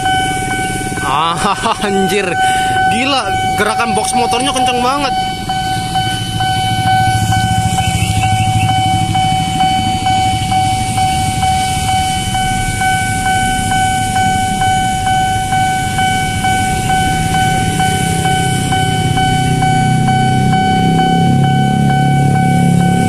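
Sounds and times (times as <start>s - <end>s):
level crossing alarm pulsing tone: 0.0s - 23.0s
passing cars and motorbikes rumble: 0.0s - 23.0s.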